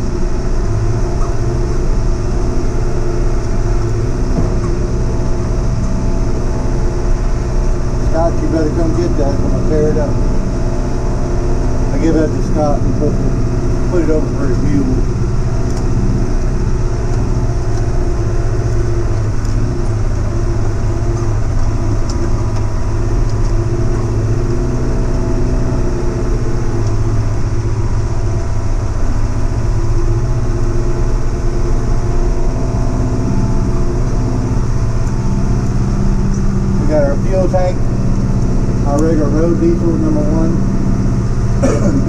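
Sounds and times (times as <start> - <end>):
heavy equipment diesel engine running: 0.0 - 42.0.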